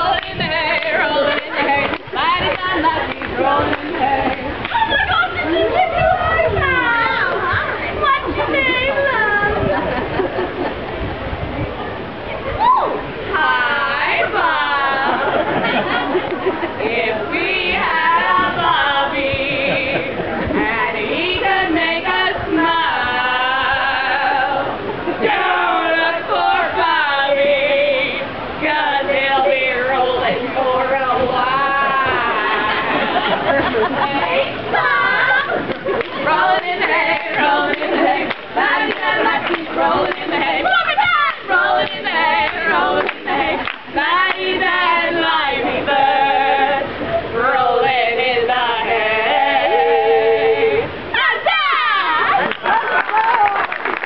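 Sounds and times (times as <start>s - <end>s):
women singing a cappella: 0.0s - 9.8s, 13.0s - 52.7s.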